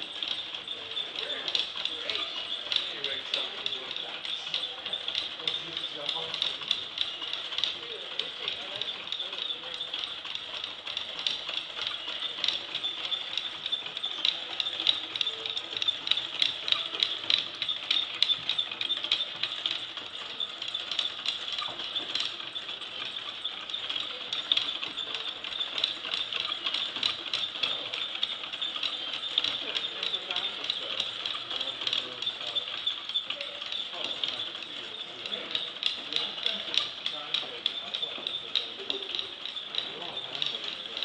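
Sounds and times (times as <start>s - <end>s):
wooden mechanism clicking and rattling: 0.0s - 41.0s.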